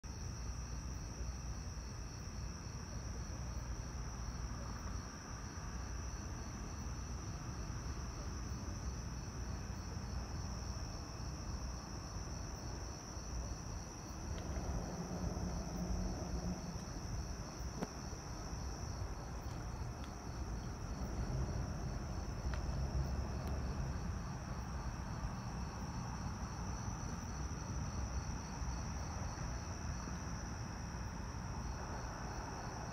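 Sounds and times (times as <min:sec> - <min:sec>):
low background rumble: 0:02.1 - 0:32.9.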